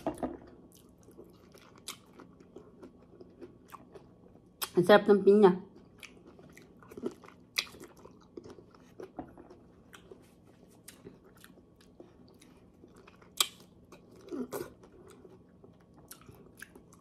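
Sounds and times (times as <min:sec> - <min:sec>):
person chewing fruit: 0:00.0 - 0:04.8, 0:05.7 - 0:17.0.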